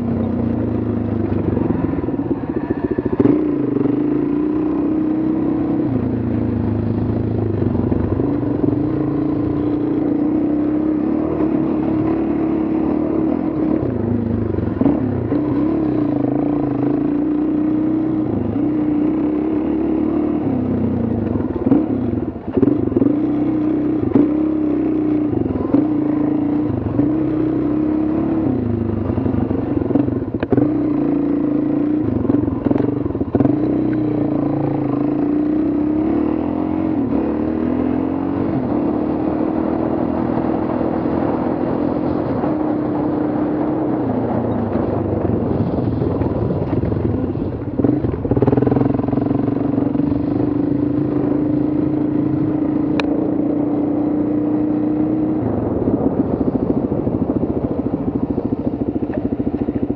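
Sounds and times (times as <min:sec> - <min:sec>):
motorcycle engine running: 0:00.0 - 0:59.9
motorcycle rattling over bumps: 0:00.0 - 0:59.9.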